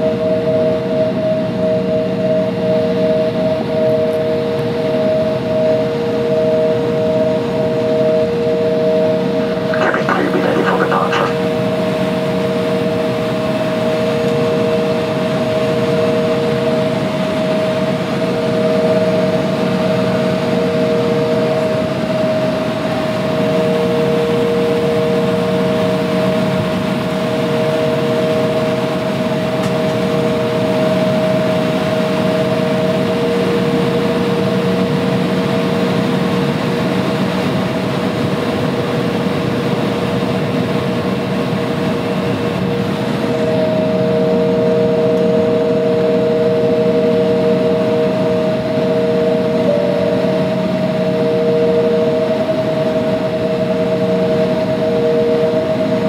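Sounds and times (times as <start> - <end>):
jet engine cabin whine: 0.0 - 56.0
low constant cabin drone: 3.5 - 56.0.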